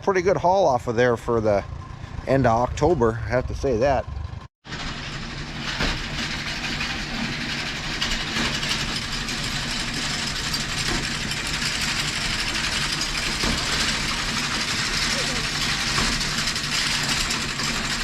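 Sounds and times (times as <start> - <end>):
farm engine running: 0.0 - 18.0.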